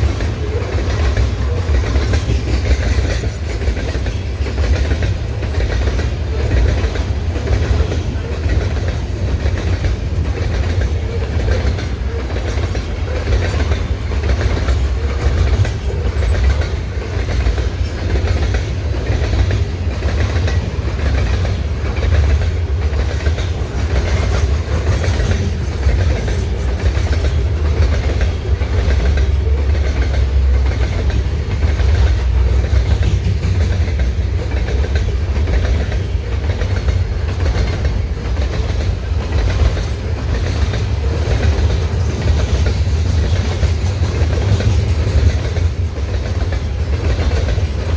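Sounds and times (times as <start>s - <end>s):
freight train rumbling past: 0.0s - 47.9s
wheels clicking over rail joints: 0.0s - 47.9s.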